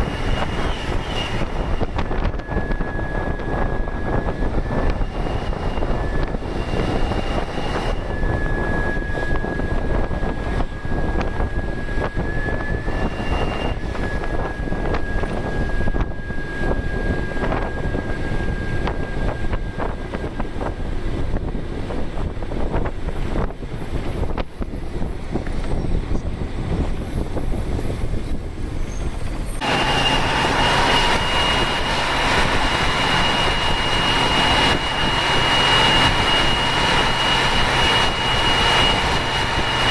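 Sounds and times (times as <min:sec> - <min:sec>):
turbo whistle: 0:00.0 - 0:20.4, 0:26.8 - 0:39.9
bus diesel engine under load: 0:00.0 - 0:39.9.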